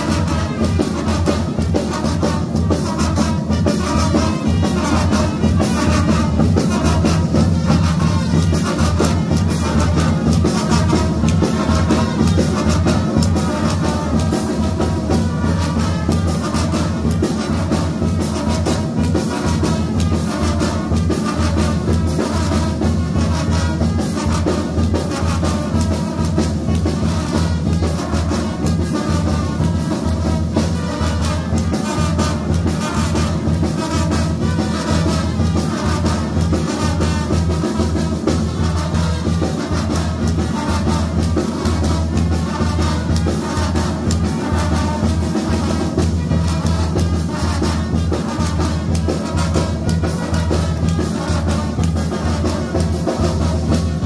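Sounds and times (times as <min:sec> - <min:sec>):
brass band with drums: 0:00.0 - 0:54.0.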